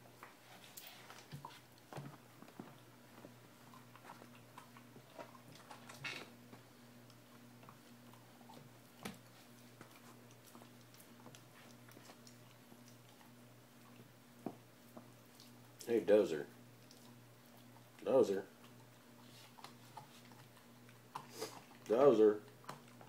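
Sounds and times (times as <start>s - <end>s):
low electrical hum: 0.0s - 23.0s
pet gnawing chew toy: 0.5s - 15.8s, 16.6s - 23.0s.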